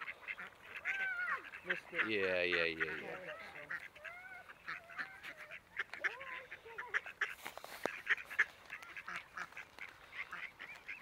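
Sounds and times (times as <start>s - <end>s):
ducks and swans calling: 0.0s - 11.0s.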